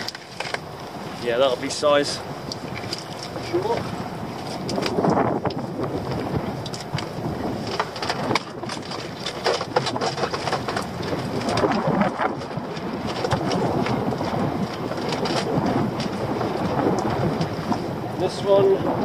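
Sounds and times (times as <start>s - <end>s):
water slapping against boat: 0.0s - 19.0s
wind buffeting microphone: 0.0s - 19.0s
lobster pot knocks and rattles: 2.6s - 17.9s.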